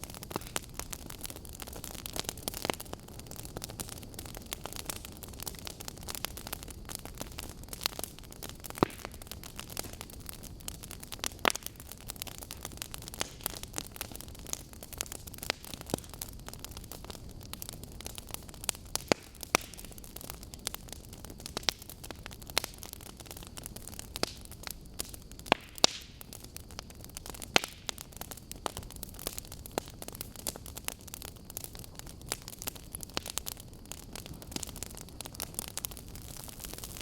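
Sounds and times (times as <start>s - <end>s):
burning logs crackling: 0.0s - 37.0s.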